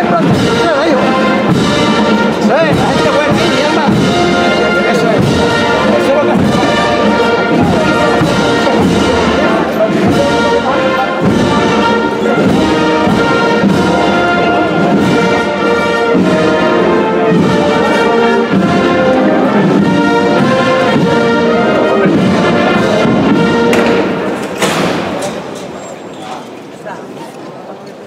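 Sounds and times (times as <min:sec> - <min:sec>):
brass band playing march: 0:00.0 - 0:25.7.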